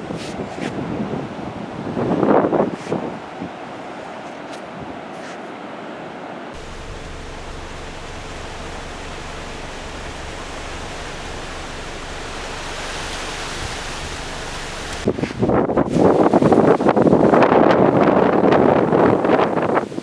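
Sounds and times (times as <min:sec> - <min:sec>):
strong wind blowing over microphone: 0:00.0 - 0:05.1, 0:06.6 - 0:20.0.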